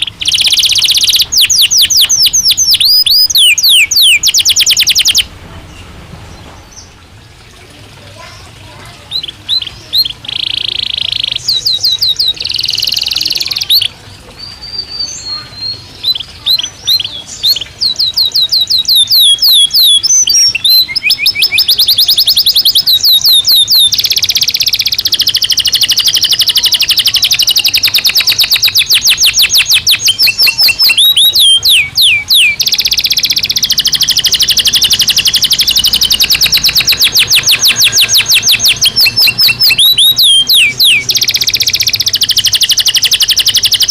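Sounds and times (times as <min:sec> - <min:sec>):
canary singing trills: 0:00.0 - 0:07.3, 0:08.0 - 0:43.9.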